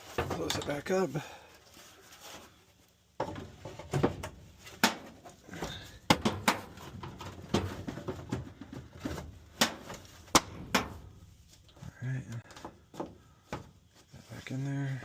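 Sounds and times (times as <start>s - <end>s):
rustling and clatter: 0.0s - 15.0s.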